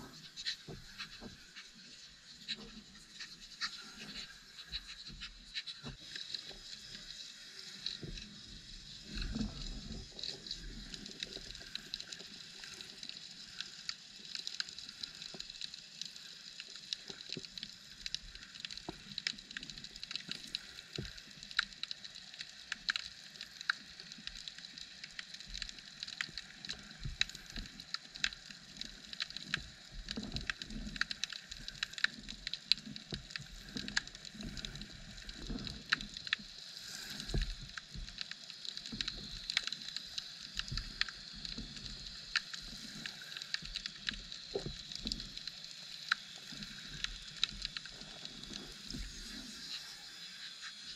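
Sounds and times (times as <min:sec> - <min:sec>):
crackling clicks: 0:00.0 - 0:50.9
underwater hiss: 0:00.0 - 0:50.9.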